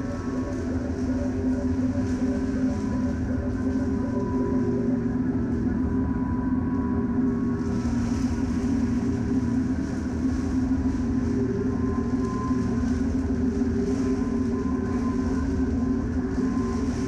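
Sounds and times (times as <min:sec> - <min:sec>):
loud low drone: 0:00.0 - 0:17.0.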